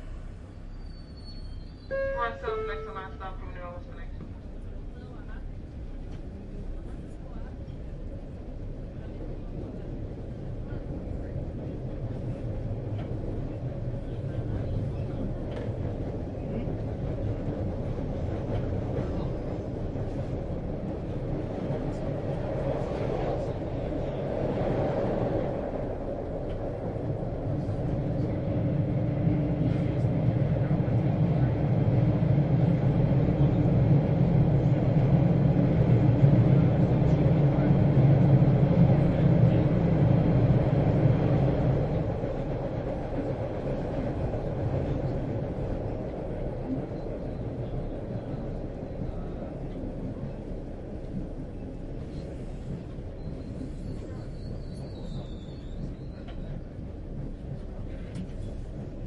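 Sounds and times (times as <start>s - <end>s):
train rumbling and rattling: 0.0s - 59.0s.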